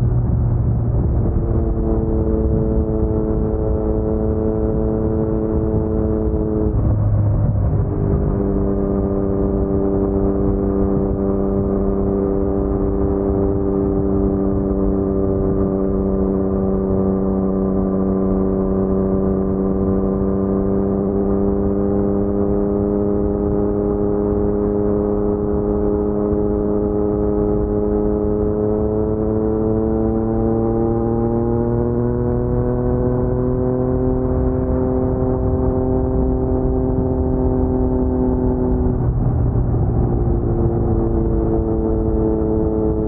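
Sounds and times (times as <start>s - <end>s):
motorcycle engine at steady revs: 0.0s - 43.0s.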